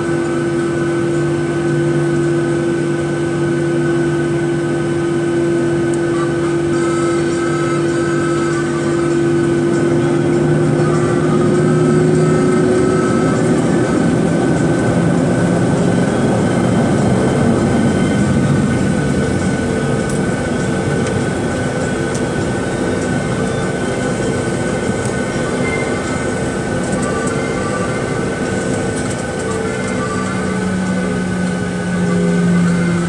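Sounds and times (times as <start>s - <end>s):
jet engine cabin roar: 0.0s - 33.0s
low engine tones: 0.0s - 33.0s
steady high hum: 0.0s - 33.0s.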